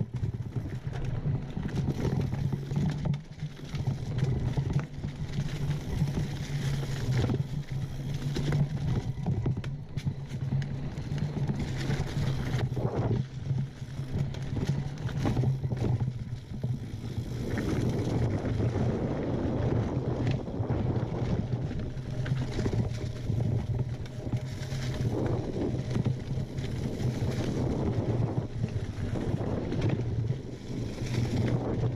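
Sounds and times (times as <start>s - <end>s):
bike knocks and rattles: 0.0s - 31.9s
bike tyres on dirt and leaves: 0.0s - 31.9s
steady low hum: 0.0s - 31.9s.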